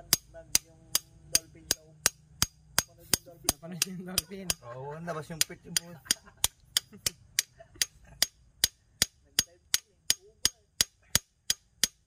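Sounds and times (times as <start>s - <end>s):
ratchet wrench clicking: 0.0s - 4.6s, 5.2s - 12.0s.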